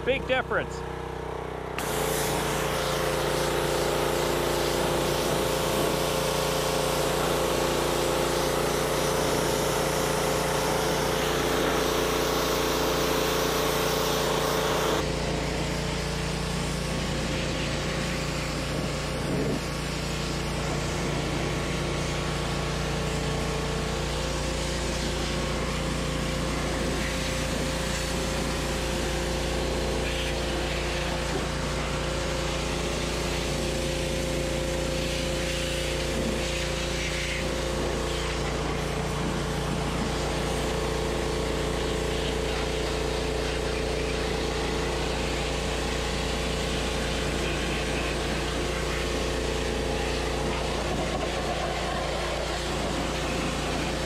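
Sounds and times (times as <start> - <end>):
pressure washer engine running: 0.0 - 54.0
water jet hissing: 1.8 - 54.0.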